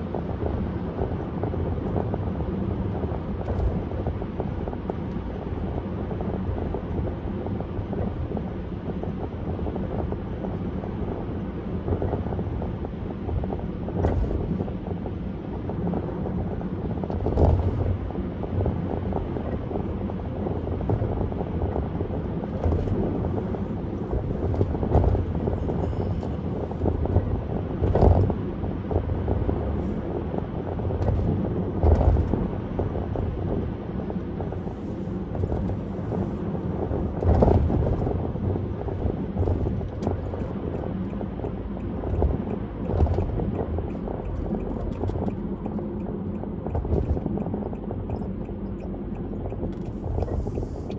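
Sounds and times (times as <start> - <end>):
car road and wind noise: 0.0 - 50.9.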